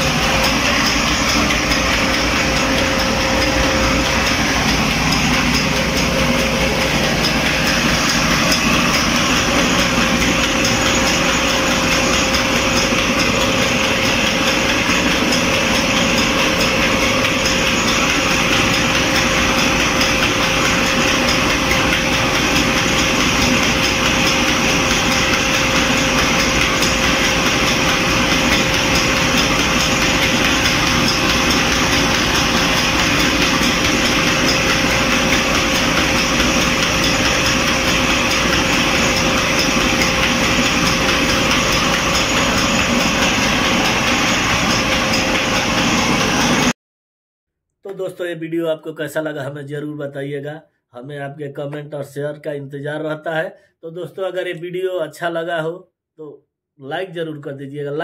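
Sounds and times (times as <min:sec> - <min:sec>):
flour mill grinding: 0:00.0 - 0:46.7.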